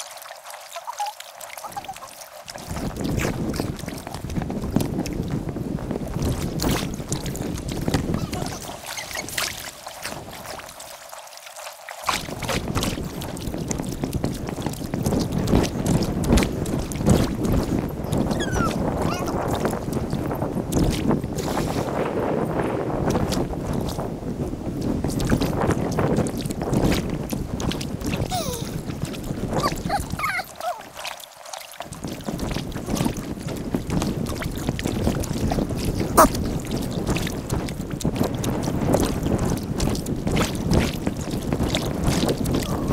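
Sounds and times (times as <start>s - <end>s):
paddle strokes splashing water: 0.0s - 42.9s
wind rumble on microphone: 1.0s - 11.1s, 12.0s - 31.1s, 31.8s - 42.9s.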